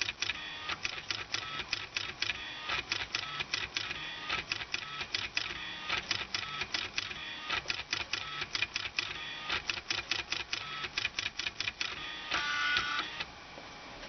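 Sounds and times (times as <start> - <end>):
stepper motors buzzing and clicking: 0.0 - 13.3.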